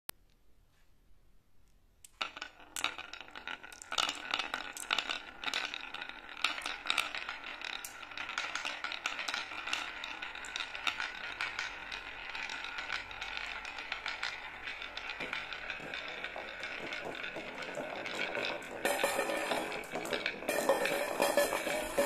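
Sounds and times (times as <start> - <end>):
marbles clicking: 1.6 - 22.0
marbles rolling on wooden track: 2.0 - 22.0.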